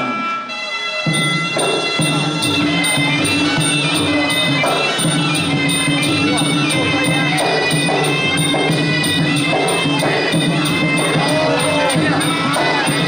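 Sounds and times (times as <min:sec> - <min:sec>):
drums beating: 0:00.0 - 0:13.0
reed pipe wavering melody: 0:00.0 - 0:13.0
small cymbals: 0:00.0 - 0:13.0.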